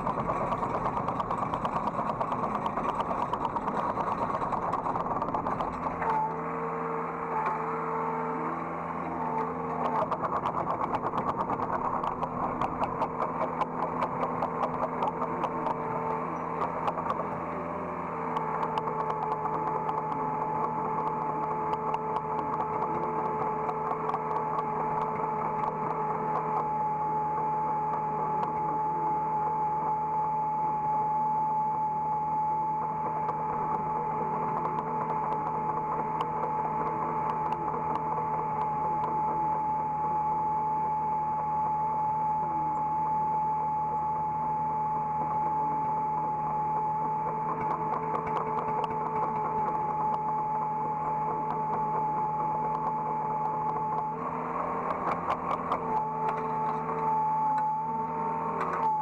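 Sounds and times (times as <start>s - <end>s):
excavator engine drone: 0.0s - 59.0s
steady whine: 0.0s - 59.0s.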